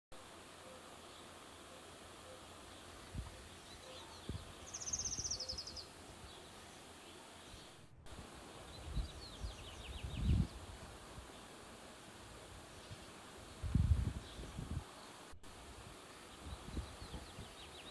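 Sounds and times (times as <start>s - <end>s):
birds chirping: 0.5s - 15.3s, 15.9s - 17.9s.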